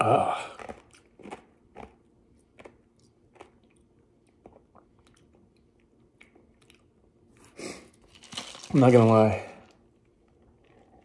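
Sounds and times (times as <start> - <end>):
person chewing quietly: 0.0 - 8.1, 9.6 - 11.0.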